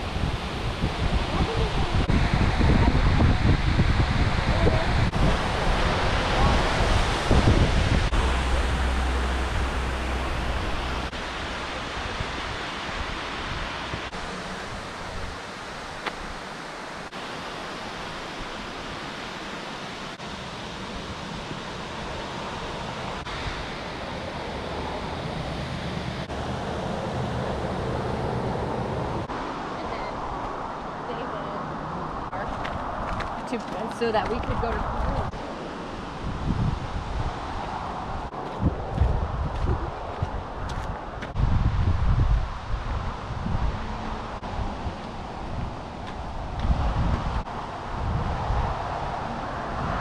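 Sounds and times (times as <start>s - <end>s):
waterfall roaring: 0.0s - 41.4s
wind rumble on microphone: 0.0s - 50.0s.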